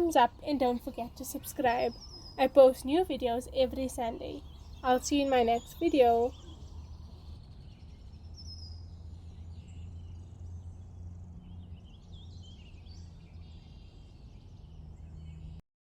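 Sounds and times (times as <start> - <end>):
faint bird chirps: 0.0 - 15.6
steady low hum: 0.0 - 15.6.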